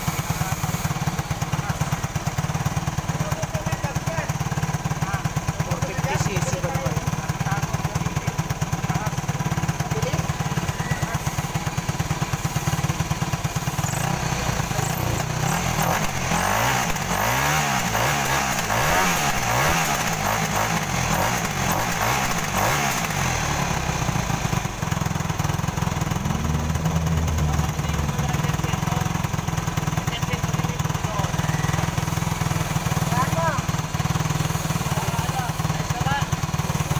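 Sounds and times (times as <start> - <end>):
quad bike engine idling and revving: 0.0 - 36.9.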